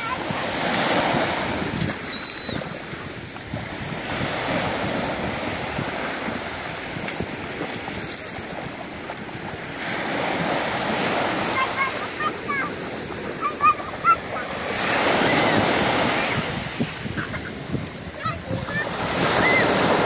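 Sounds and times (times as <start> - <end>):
small waves breaking on sand: 0.0 - 20.0.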